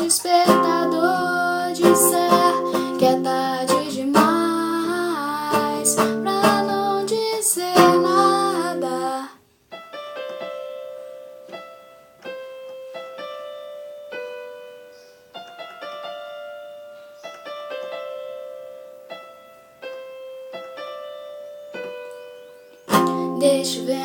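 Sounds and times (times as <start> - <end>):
slow keyboard melody: 0.0 - 24.0.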